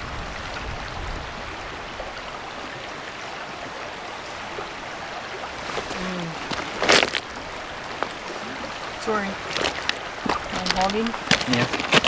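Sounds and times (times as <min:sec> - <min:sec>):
brook running: 0:00.0 - 0:12.0.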